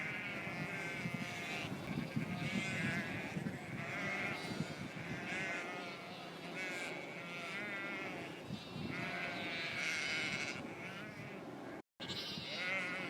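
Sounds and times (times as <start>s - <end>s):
sheep bleating: 0.0s - 11.4s, 12.0s - 13.0s.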